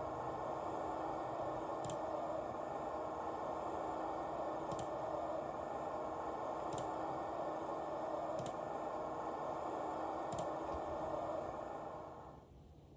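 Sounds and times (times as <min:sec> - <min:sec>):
hissing from small speaker: 0:00.0 - 0:12.9.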